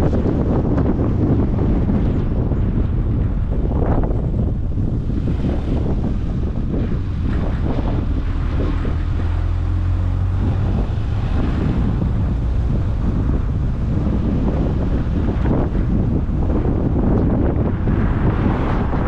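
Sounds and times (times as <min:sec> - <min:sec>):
low hum: 0:00.0 - 0:18.5
road and engine rumble: 0:00.0 - 0:19.0
wind buffeting microphone: 0:00.0 - 0:19.0.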